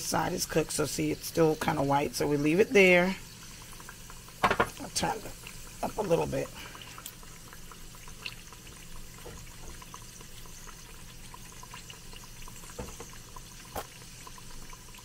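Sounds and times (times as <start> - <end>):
oil sizzling and crackling: 0.0 - 15.0.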